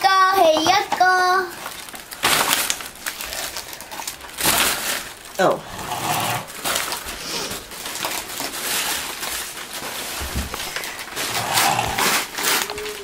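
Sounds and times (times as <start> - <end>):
wrapping paper rustling: 0.1 - 13.0.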